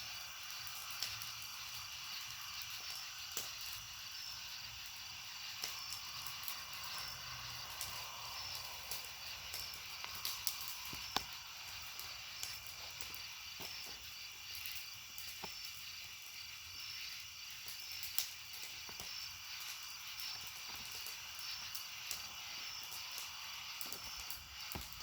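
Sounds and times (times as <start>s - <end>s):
fire crackling and popping: 0.0s - 25.0s
insects chirping: 0.0s - 25.0s.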